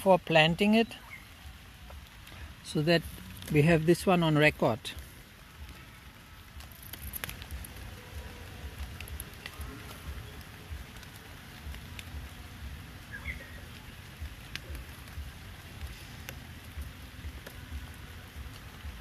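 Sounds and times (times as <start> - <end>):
light ticks and patter: 0.0 - 19.0.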